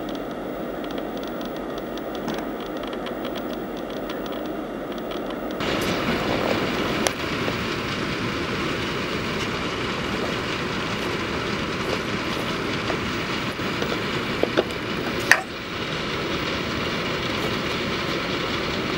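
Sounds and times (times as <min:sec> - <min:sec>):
freight cars rolling by: 0:00.0 - 0:18.9
locomotive engines rumbling: 0:00.0 - 0:18.9
steel wheels on rail: 0:00.0 - 0:18.9
wheel clicks: 0:00.0 - 0:18.9.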